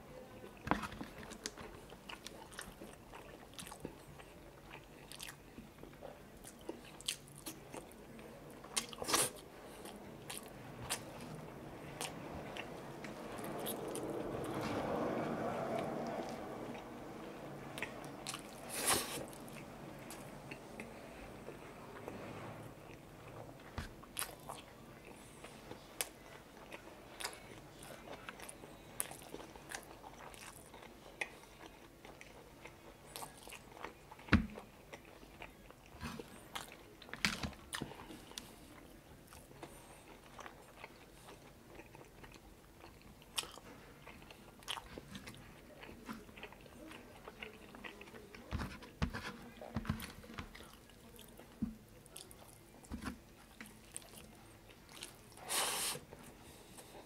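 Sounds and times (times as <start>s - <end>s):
man chewing with mouth sounds: 0.4s - 57.0s.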